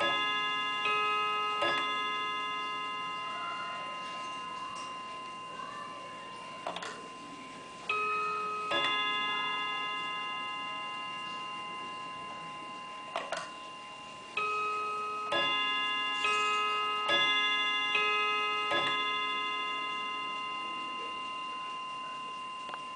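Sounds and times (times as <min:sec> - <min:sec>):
clock chime notes: 0:00.0 - 0:22.9.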